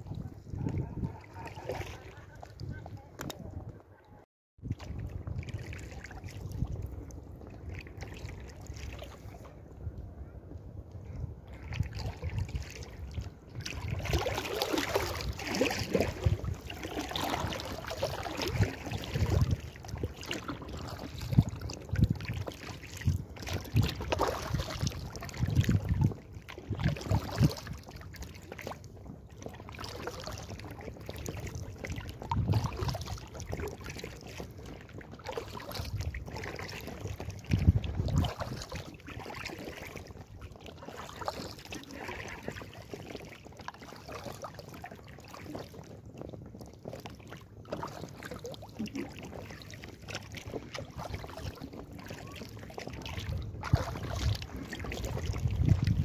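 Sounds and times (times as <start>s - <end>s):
paddle strokes splashing: 0.0s - 4.0s, 4.6s - 9.7s, 11.0s - 56.0s
wind on microphone: 0.0s - 43.6s, 44.3s - 56.0s
water gurgling along hull: 0.0s - 56.0s.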